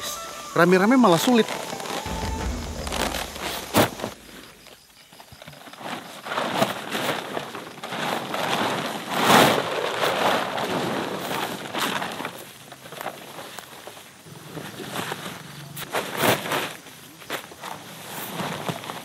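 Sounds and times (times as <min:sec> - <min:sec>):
plastic tarp crackling and rustling: 0:00.0 - 0:02.2, 0:05.6 - 0:19.0.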